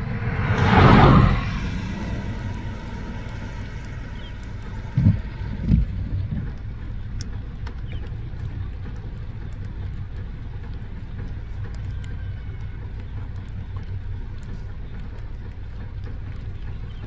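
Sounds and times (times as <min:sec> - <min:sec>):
car engine idling: 0:00.0 - 0:17.0
faint ticks: 0:02.1 - 0:17.0.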